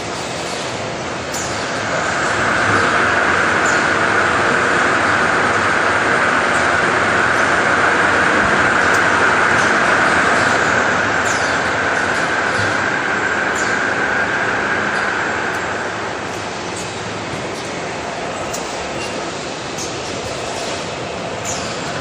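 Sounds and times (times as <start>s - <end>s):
mechanical hiss: 0.0s - 22.0s.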